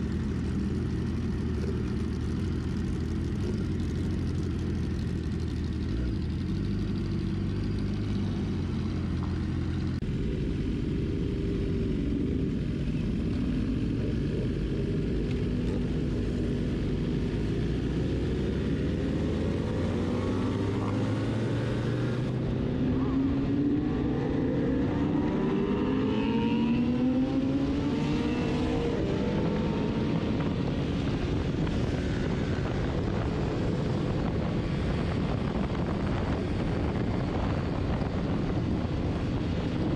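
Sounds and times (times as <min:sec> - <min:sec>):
motorcycle engines revving: 0:00.0 - 0:39.9
wind and road noise: 0:00.0 - 0:39.9.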